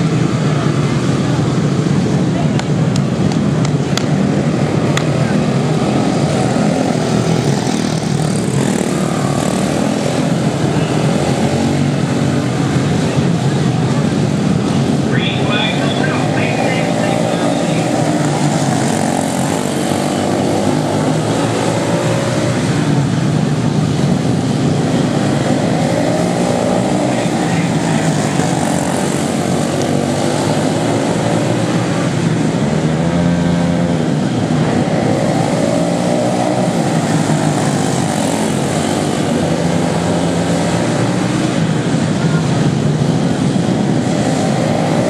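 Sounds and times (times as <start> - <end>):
race car engines passing: 0.0 - 45.0.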